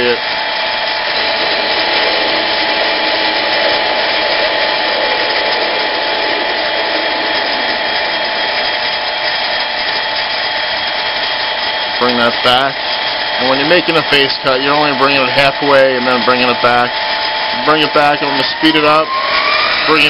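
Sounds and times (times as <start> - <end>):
lathe tool cutting metal: 0.0 - 20.0
metal lathe whining: 0.0 - 20.0.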